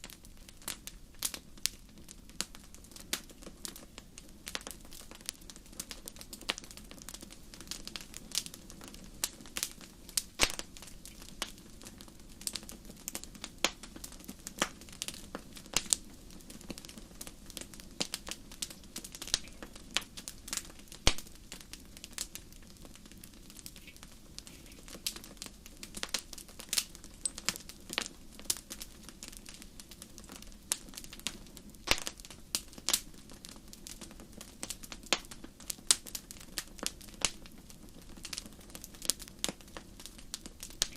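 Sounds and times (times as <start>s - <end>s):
fire snaps and pops: 0.0s - 40.9s
wood fire crackling: 0.0s - 40.9s.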